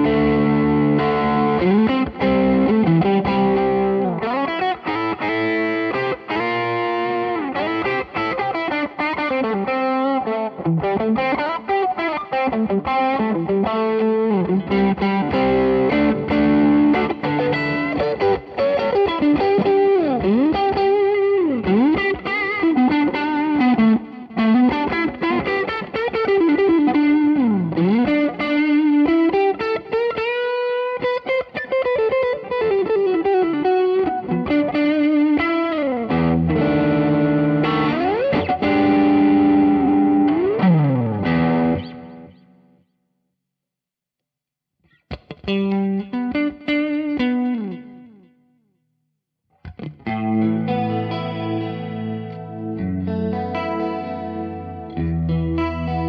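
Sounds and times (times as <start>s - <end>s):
distorted electric guitar bending notes: 0.0s - 42.6s, 49.6s - 56.0s.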